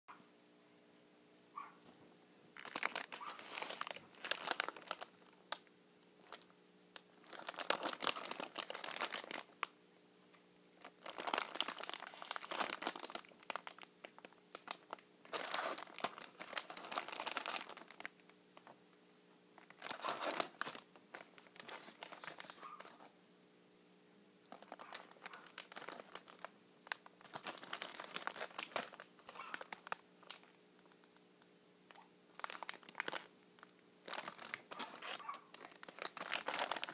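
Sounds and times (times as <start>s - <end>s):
faint electrical hum: 0.1s - 36.9s
packaging crinkling and tearing: 2.6s - 5.6s, 6.2s - 9.7s, 10.8s - 18.7s, 19.6s - 23.1s, 24.5s - 31.3s, 31.9s - 36.9s.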